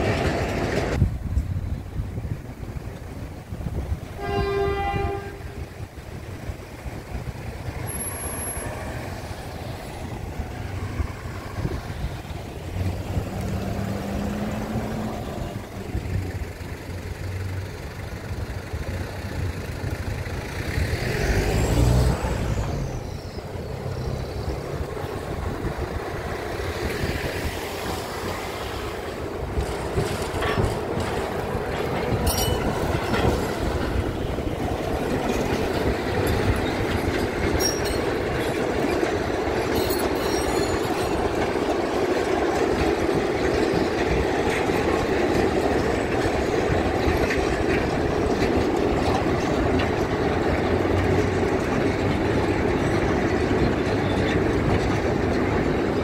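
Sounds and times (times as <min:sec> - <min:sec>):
train rumbling and rattling on rails: 0:00.0 - 0:56.0.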